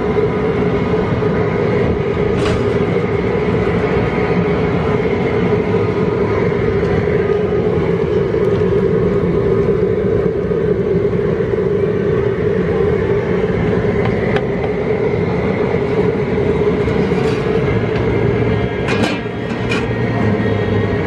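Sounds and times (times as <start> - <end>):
propane burner roaring: 0.0 - 21.0.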